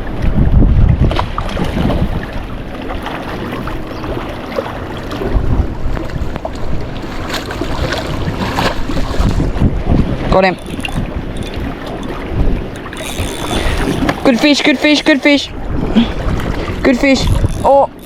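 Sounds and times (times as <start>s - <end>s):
wind buffeting the microphone: 0.0s - 14.4s, 15.4s - 18.0s
ocean waves against rocks: 0.0s - 18.0s.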